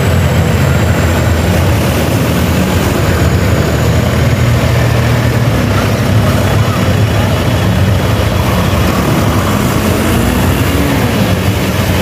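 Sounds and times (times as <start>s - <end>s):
tractor diesel engines droning: 0.0s - 12.0s.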